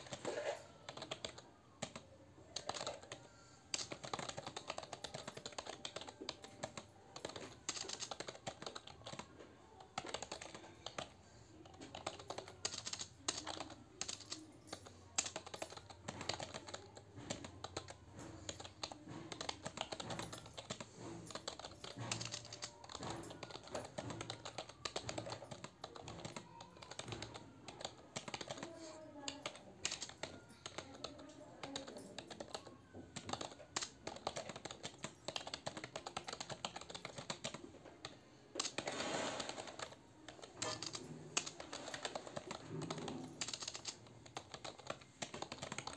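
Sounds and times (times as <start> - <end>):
fast typing on computer keyboard: 0.0 - 45.9.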